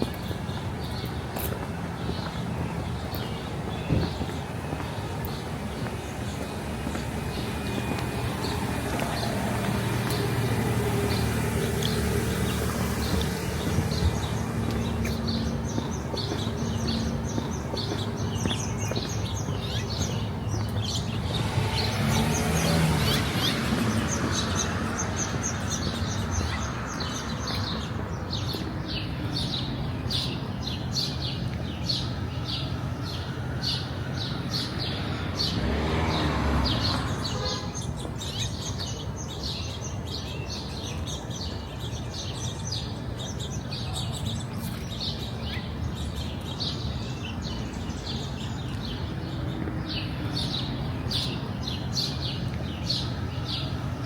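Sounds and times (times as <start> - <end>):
small birds chirping: 0.0 - 54.0
street traffic hum: 0.0 - 54.0
vehicles passing: 0.0 - 54.0.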